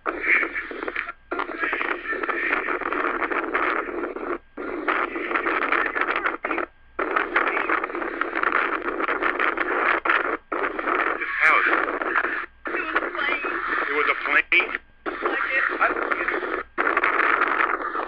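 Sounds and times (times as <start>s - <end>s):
harsh distorted noise through small speaker: 0.0s - 18.0s.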